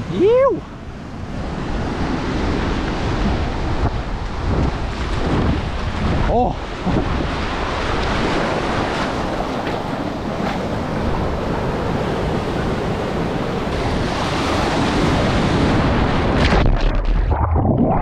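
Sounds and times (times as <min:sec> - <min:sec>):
ocean surf breaking on beach: 0:00.0 - 0:16.6.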